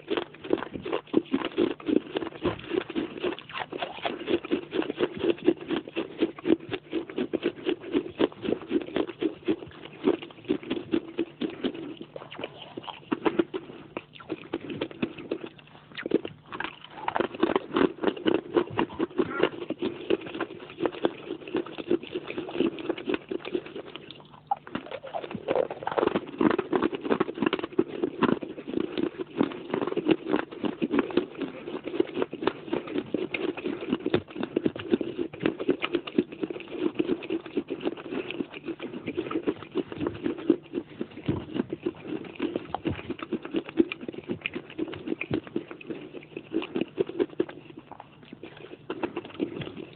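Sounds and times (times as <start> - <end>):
clay pot pieces crunching: 0.0 - 49.9.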